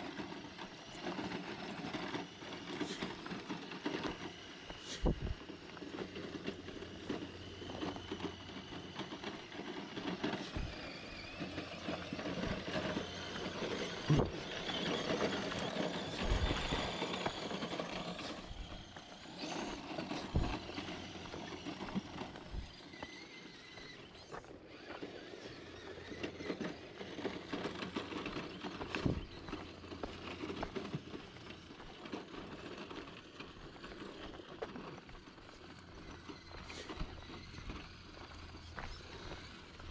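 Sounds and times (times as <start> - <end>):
rc truck electric motor: 0.0 - 39.9
tyres crunching over stones: 0.0 - 39.9
footsteps crunching on dirt: 0.1 - 39.9.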